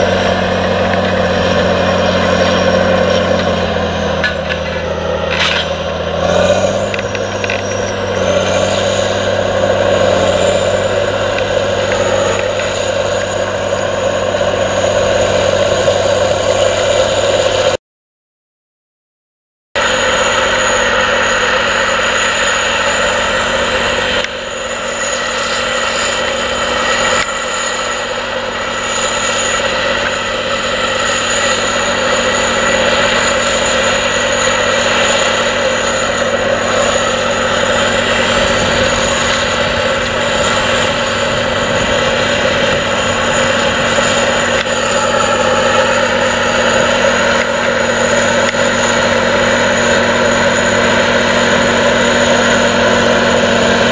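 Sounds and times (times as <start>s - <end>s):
tractor diesel engine under load: 0.0s - 17.8s, 19.8s - 53.9s.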